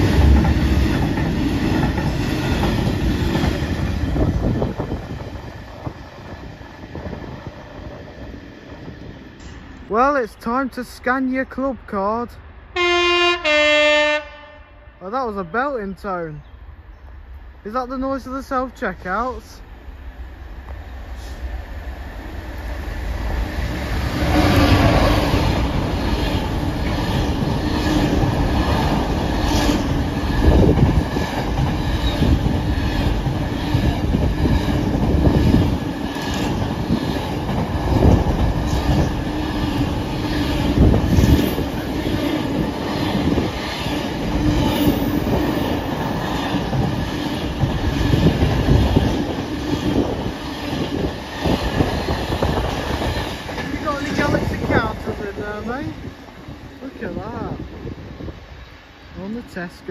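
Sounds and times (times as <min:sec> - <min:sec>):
freight train rumble: 0:00.0 - 0:59.9.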